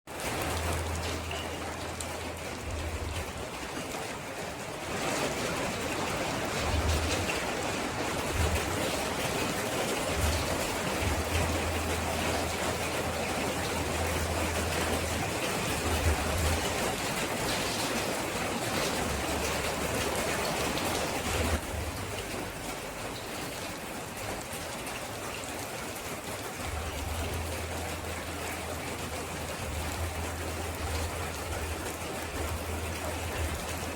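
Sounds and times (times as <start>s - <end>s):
steady rainfall: 0.1s - 33.9s.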